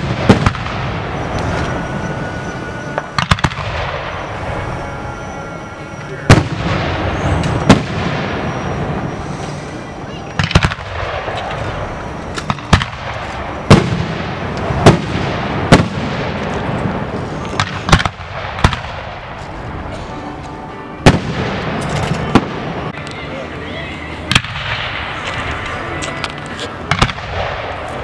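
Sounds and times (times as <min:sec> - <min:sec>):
fireworks booming: 0:00.0 - 0:20.1, 0:21.0 - 0:23.0, 0:24.3 - 0:25.9, 0:26.8 - 0:28.0
noisy rumble: 0:00.0 - 0:28.0.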